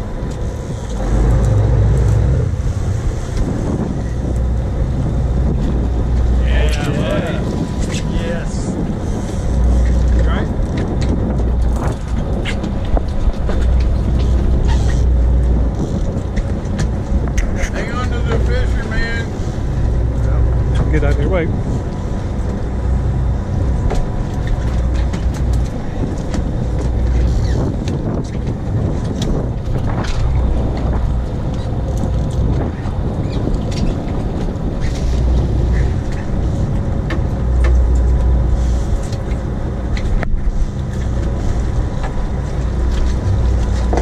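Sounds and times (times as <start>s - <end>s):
boat engine rumbling: 0.0s - 44.0s.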